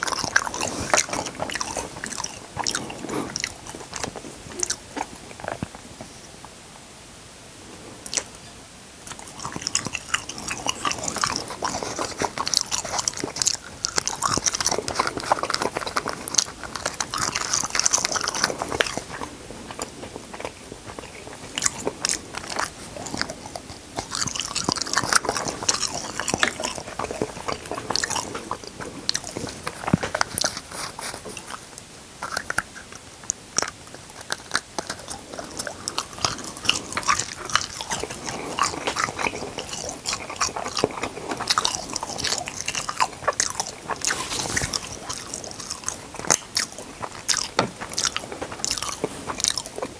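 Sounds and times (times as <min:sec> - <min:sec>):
chewing crunchy food: 0:00.0 - 0:06.6, 0:07.7 - 0:49.9.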